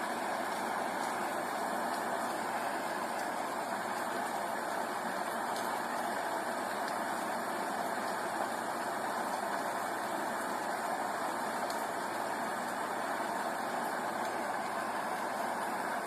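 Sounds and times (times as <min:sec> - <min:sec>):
faint raindrop ticks: 0:00.0 - 0:16.0
steady rain hiss: 0:00.0 - 0:16.0.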